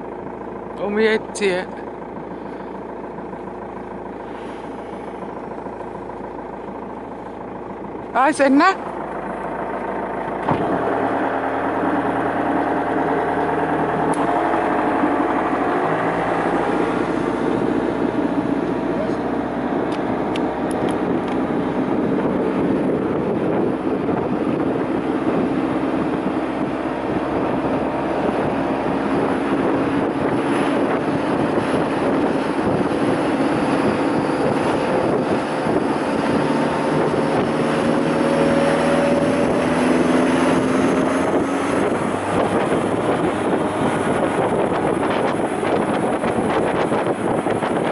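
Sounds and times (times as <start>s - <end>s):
boat engine running: 0.0s - 47.9s
rush of wind and water: 8.1s - 47.9s.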